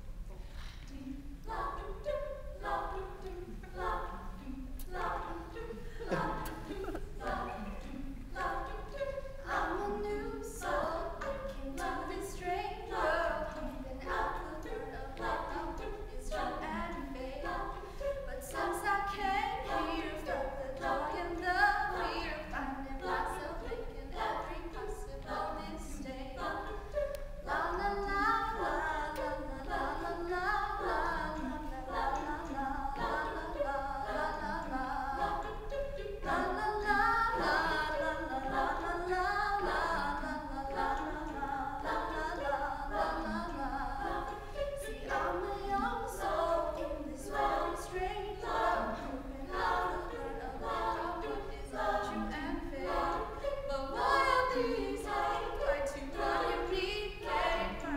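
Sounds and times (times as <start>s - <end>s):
wordless backing harmonies: 0.0s - 57.9s.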